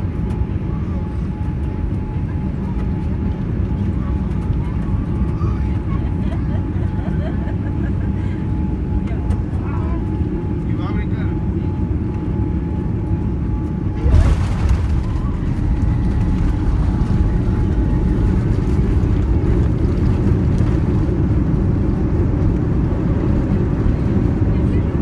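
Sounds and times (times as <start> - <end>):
airplane landing roll rumble: 0.0 - 25.0.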